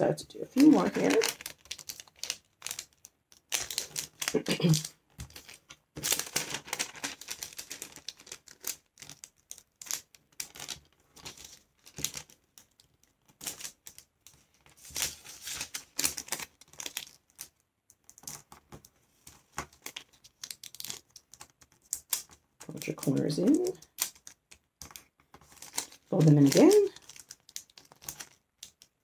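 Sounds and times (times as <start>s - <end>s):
paper rustling as folded: 0.5s - 29.0s.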